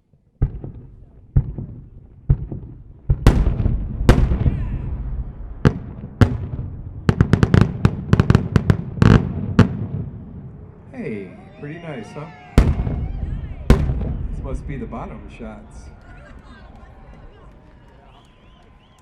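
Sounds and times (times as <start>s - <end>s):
firework bangs: 0.3s - 19.0s.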